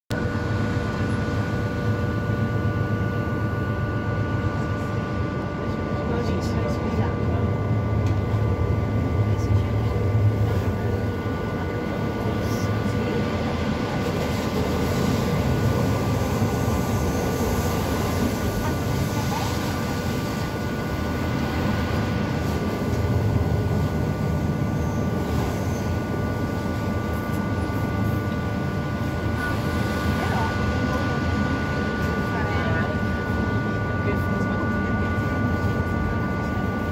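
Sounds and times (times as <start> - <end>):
train rolling rumble: 0.1 - 36.9
faint high whine: 0.2 - 36.9.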